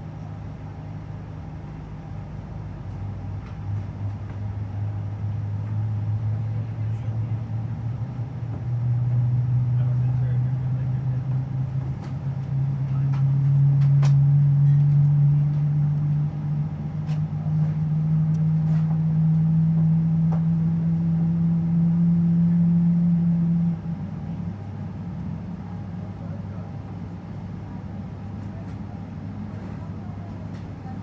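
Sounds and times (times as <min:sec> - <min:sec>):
aircraft cabin droning hum: 0:00.0 - 0:31.0
low rumble: 0:00.0 - 0:31.0.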